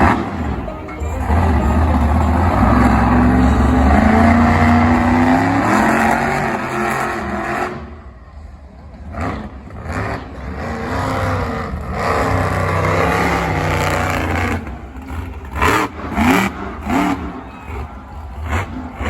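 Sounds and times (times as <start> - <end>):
engine revving sharply: 0.0 - 8.1, 9.0 - 19.0
monster truck engine running: 0.0 - 19.0.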